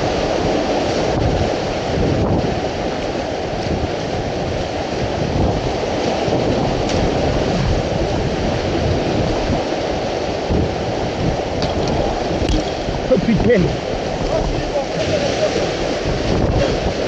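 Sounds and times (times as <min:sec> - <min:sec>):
whitewater rapids rushing: 0:00.0 - 0:17.0.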